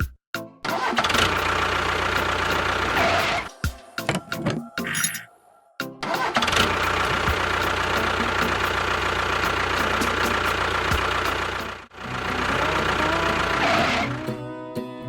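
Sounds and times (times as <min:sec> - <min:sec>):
engine running with low hum: 0:00.9 - 0:05.2, 0:06.1 - 0:14.3.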